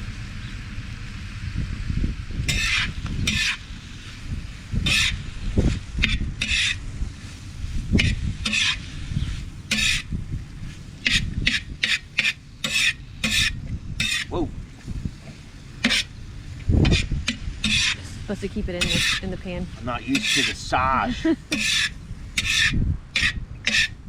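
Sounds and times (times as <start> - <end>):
utensil scraping metal griddle: 2.5 - 4.2, 4.8 - 14.3, 15.2 - 16.2, 16.8 - 24.0
food sizzling: 2.5 - 22.7.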